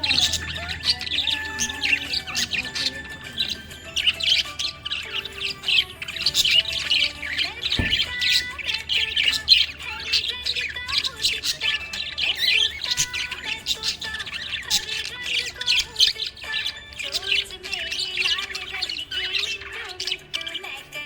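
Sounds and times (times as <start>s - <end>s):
budgerigar chattering: 0.0s - 21.0s.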